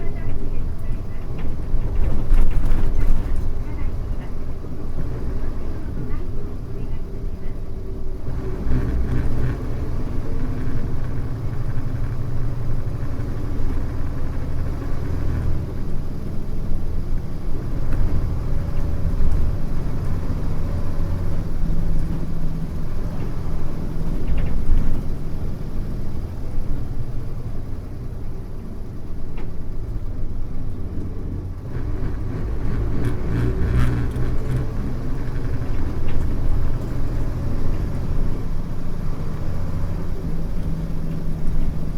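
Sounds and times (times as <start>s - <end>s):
diesel bus engine rumble: 0.0s - 41.9s.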